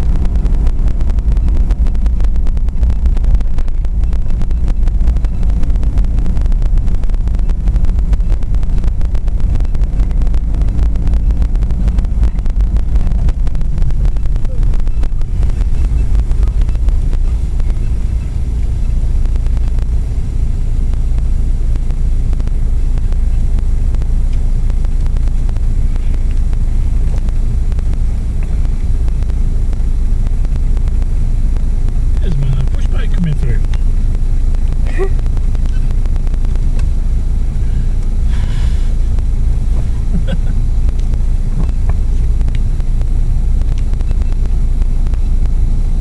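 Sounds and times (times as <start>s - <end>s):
steady low rumble: 0.0s - 46.0s
wind buffeting microphone: 0.0s - 46.0s.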